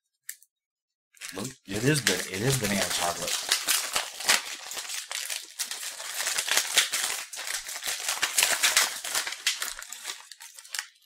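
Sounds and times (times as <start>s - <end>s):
plastic wrapper crinkling: 1.2s - 11.0s.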